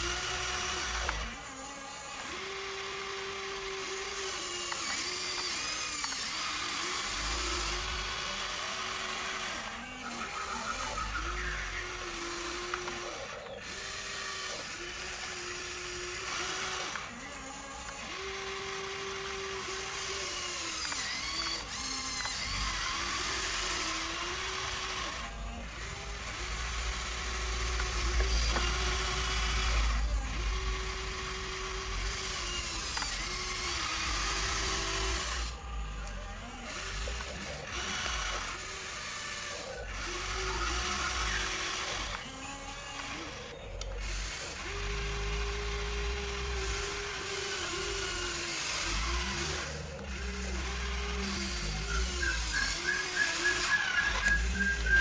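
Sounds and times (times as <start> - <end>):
hydraulic pump and motors whirring: 0.0 - 55.0.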